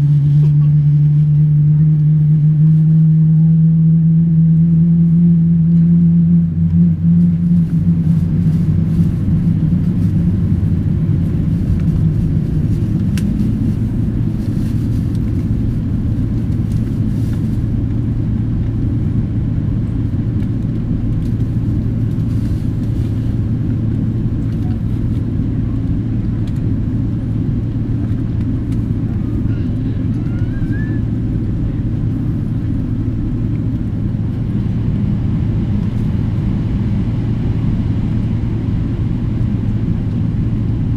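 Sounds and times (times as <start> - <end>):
jet engines rumbling: 0.0 - 40.9
low hum: 0.0 - 40.9.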